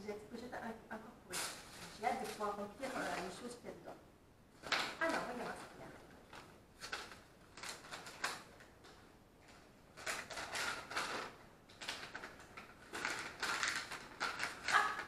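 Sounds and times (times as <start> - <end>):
rustling and crinkling packing: 1.3 - 3.6, 4.6 - 15.0.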